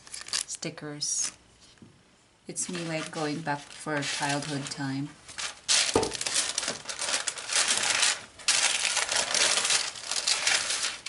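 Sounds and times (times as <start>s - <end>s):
packaging crinkling and rustling: 0.0s - 0.6s, 2.6s - 11.0s.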